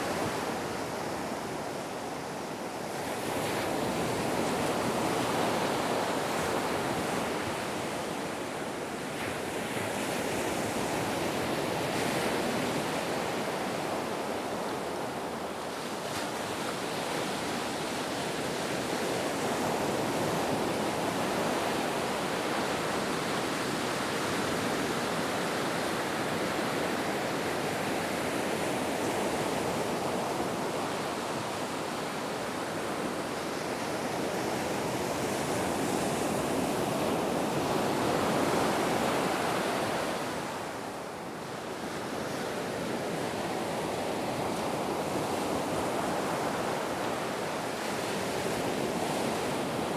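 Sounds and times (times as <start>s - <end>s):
ocean waves washing ashore: 0.0s - 49.9s.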